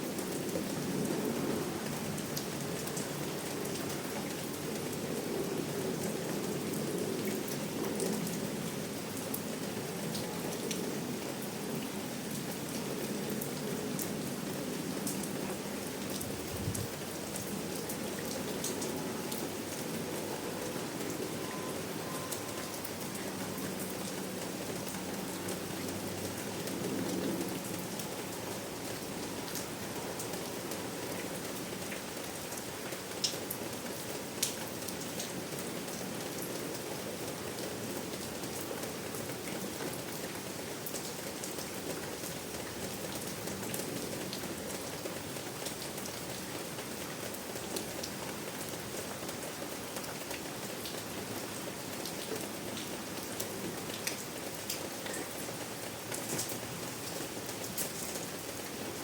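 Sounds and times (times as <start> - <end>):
rain pattering: 0.0 - 59.0
sharp raindrops: 0.0 - 59.0.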